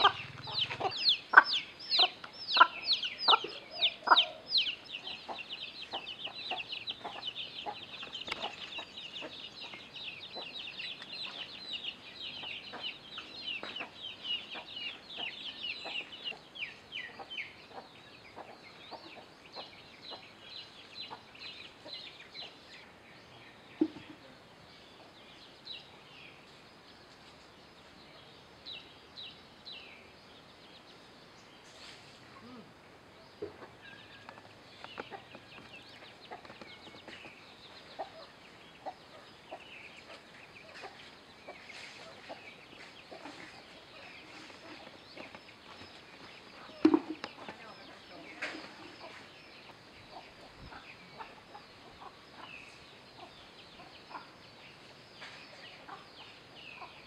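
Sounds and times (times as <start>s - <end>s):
young chickens clucking: 0.0s - 22.8s, 23.7s - 25.7s, 31.6s - 57.0s.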